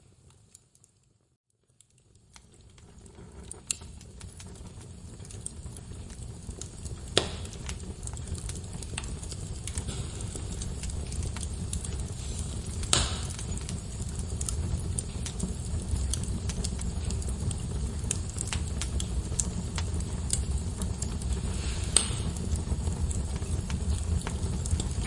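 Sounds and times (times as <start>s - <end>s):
wood fire crackling: 0.0s - 25.0s
low rumble of flames: 0.1s - 25.0s
fire popping: 0.2s - 25.0s.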